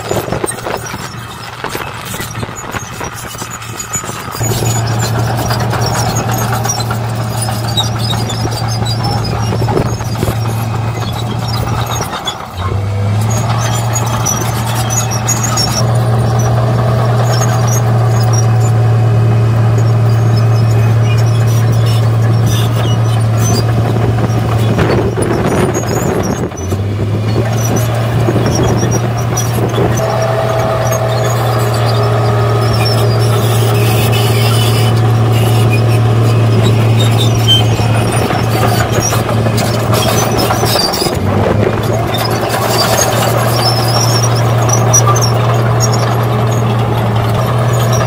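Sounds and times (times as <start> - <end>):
bulldozer diesel engine under load: 0.0 - 48.0.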